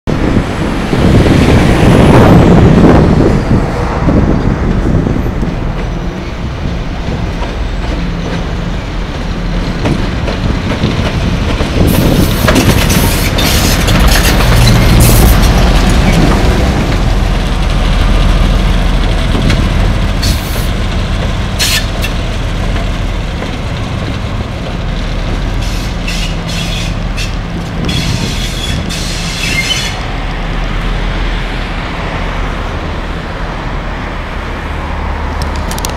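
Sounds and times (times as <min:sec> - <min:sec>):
locomotive diesel engine throbbing: 0:00.2 - 0:33.9.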